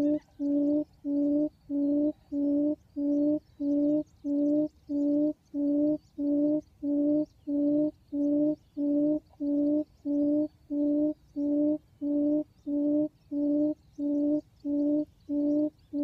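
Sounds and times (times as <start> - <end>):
recorded quail call: 0.0 - 16.0.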